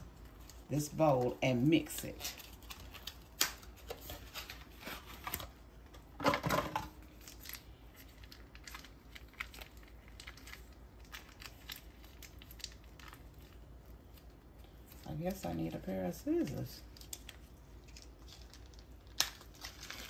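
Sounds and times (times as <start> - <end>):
foil wrapper crinkling and tearing: 0.0 - 5.8, 7.0 - 20.0.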